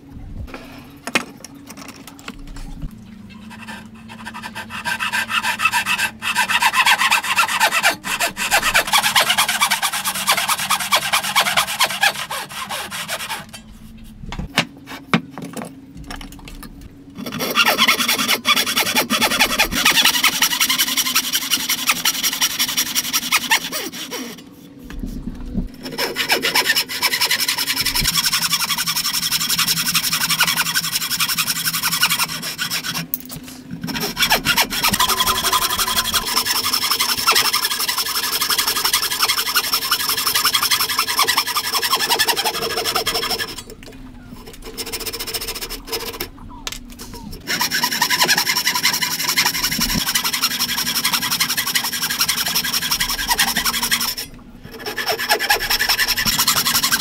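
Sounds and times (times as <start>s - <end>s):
handsaw cutting wood: 3.5s - 13.6s, 17.2s - 24.4s, 25.8s - 33.1s, 33.8s - 43.7s, 44.6s - 46.3s, 47.5s - 57.0s.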